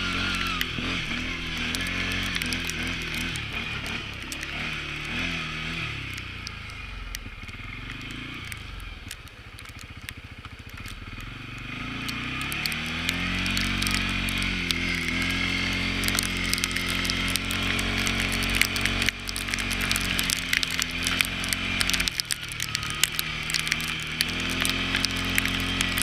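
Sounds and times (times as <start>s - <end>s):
atv engine revving and idling: 0.0s - 26.0s.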